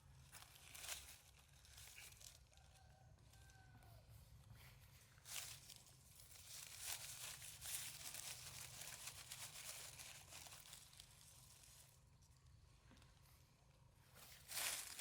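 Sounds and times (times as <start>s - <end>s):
faint rustling and crackling: 0.0s - 15.0s.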